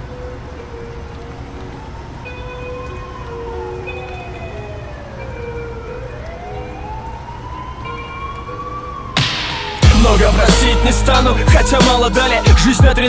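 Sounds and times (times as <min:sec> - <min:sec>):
low traffic-like rumble: 0:00.0 - 0:13.0
siren wailing: 0:00.0 - 0:13.0.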